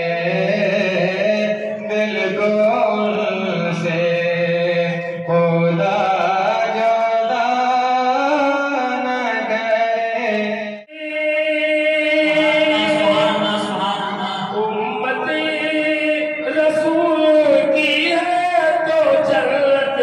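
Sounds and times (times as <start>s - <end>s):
man singing into microphone: 0.0s - 20.0s.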